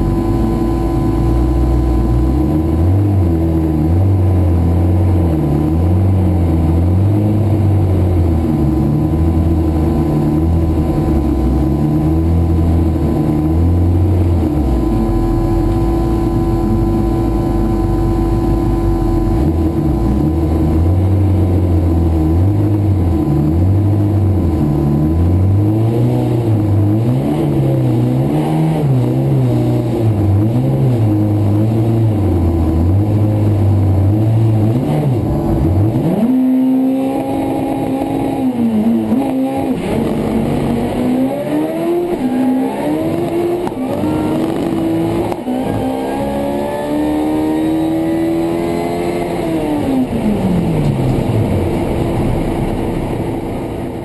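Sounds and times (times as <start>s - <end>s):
drag car engine revving and accelerating: 0.0s - 54.0s.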